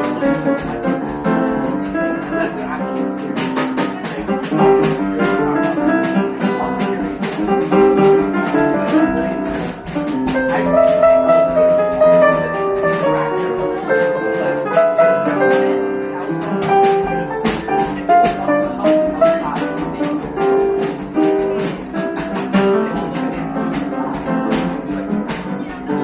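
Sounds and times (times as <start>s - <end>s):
jazz band playing: 0.0s - 26.0s.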